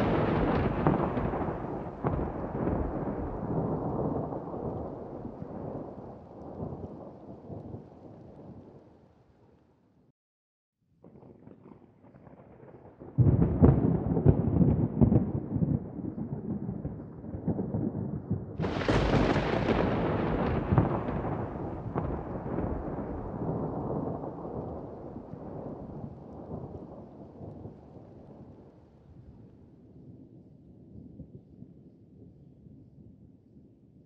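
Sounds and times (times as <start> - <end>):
thunder crack and rumble: 0.0 - 8.9, 11.0 - 29.4.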